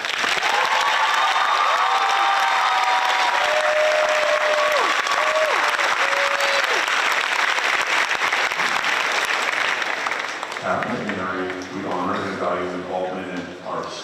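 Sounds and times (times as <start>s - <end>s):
people cheering: 0.0s - 11.5s
audience applauding: 0.0s - 12.1s.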